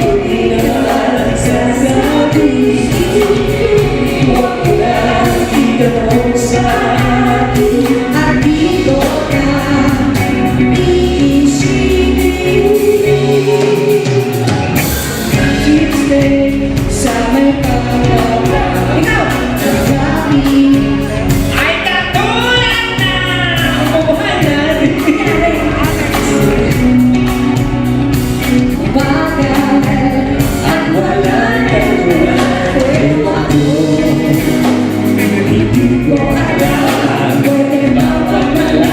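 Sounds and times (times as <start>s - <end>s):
lead singer with backing vocals: 0.0s - 27.6s, 28.7s - 38.9s
steady drum beat: 0.0s - 38.9s.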